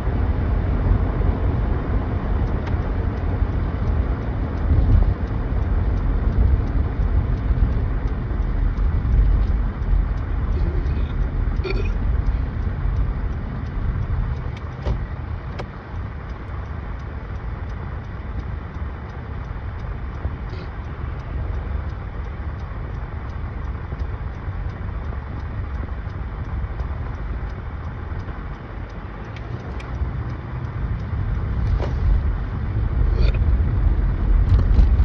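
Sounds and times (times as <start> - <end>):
car engine and road rumble: 0.0 - 35.0
faint ticks: 0.1 - 35.0.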